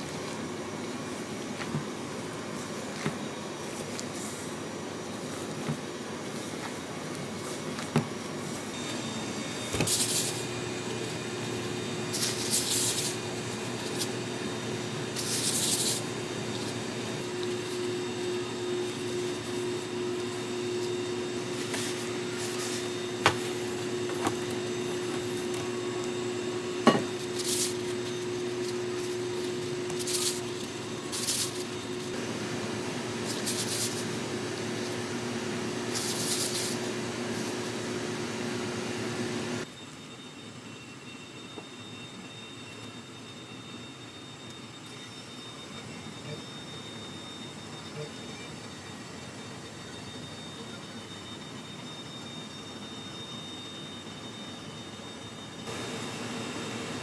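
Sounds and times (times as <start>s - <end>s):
machine hum with held tone: 0.0s - 57.0s.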